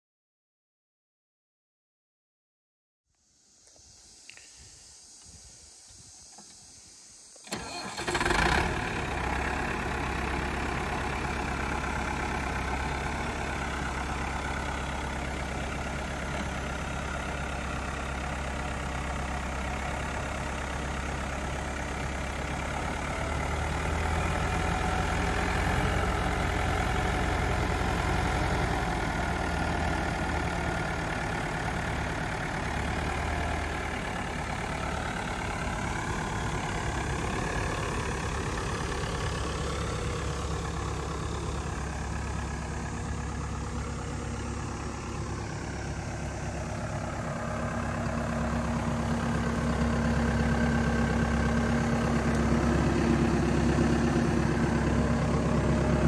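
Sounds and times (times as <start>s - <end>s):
tractor diesel engine starting: 3.8s - 56.0s.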